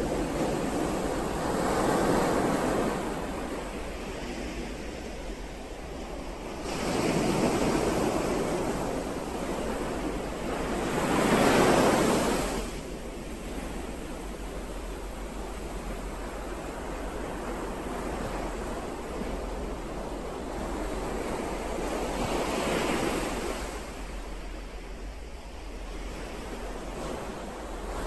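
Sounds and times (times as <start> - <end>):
ocean waves surging: 0.0 - 28.0.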